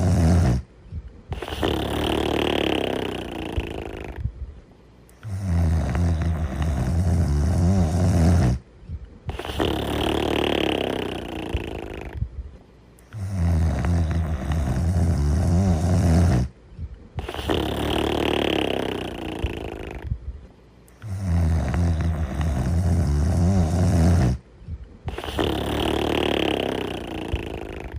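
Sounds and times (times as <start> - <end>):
cartoon character snoring: 0.0 - 0.7, 1.3 - 4.3, 5.2 - 8.6, 9.3 - 12.2, 13.1 - 16.6, 17.2 - 20.1, 21.0 - 24.4, 25.1 - 27.9.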